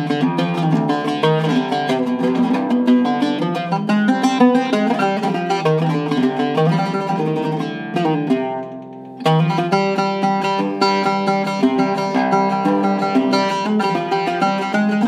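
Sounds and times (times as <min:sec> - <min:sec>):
oud plucked notes: 0:00.0 - 0:15.0.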